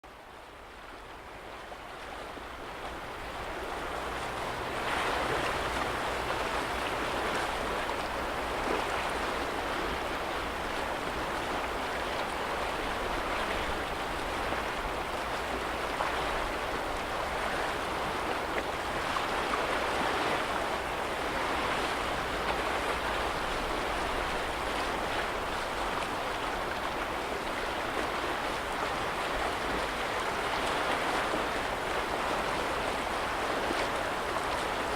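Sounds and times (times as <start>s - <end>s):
lake waves lapping against shore: 0.4s - 34.9s.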